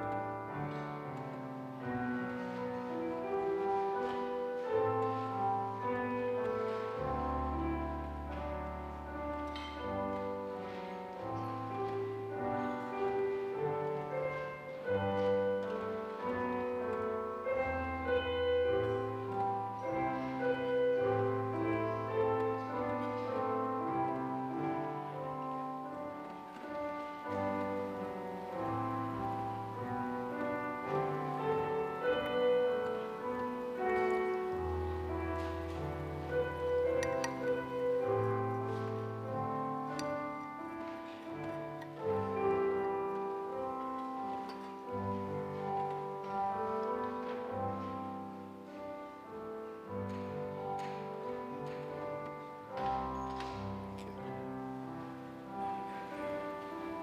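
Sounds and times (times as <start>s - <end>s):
slow church keyboard music: 0.0s - 57.0s.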